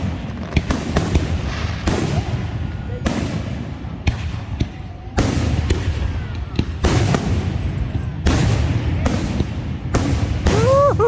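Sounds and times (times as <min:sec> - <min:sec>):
firework bursts: 0:00.0 - 0:11.0
firework cracks: 0:00.0 - 0:11.0.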